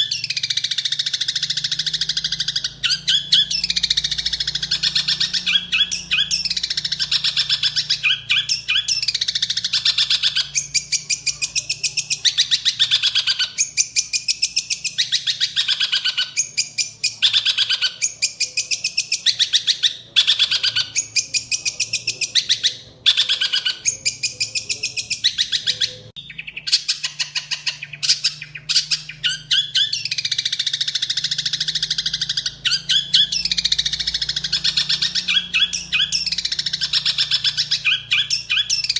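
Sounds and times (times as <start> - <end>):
shrike singing harsh chirps and trills: 0.0 - 38.9.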